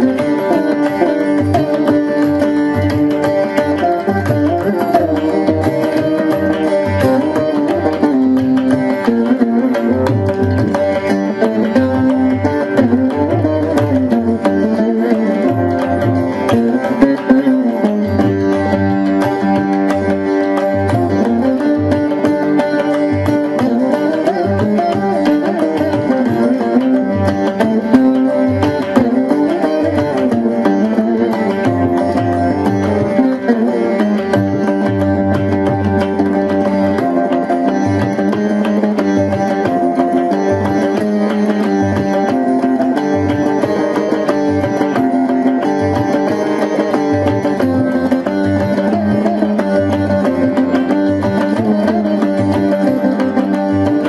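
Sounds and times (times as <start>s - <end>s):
hand drum rhythm: 0.0s - 54.0s
plucked veena melody: 0.0s - 54.0s.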